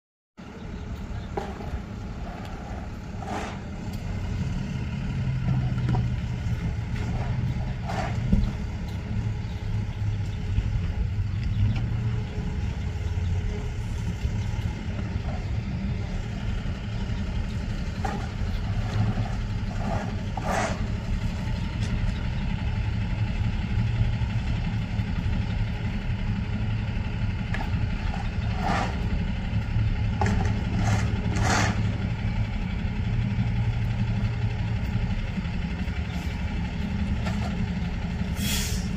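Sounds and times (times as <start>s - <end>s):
vehicle engine idling: 0.4s - 38.9s.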